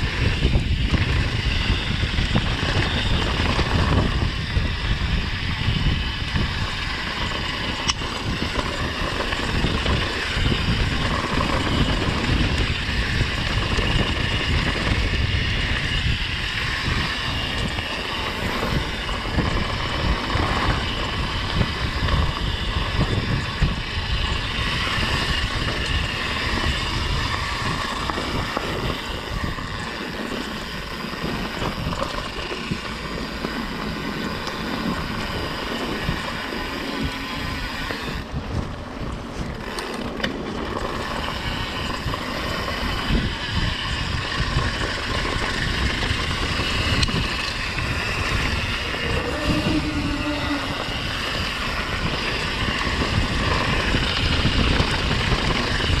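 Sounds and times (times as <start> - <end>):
bike rattling over bumps: 0.0 - 56.0
bike tyre noise: 0.0 - 56.0
wind buffeting microphone: 0.0 - 56.0.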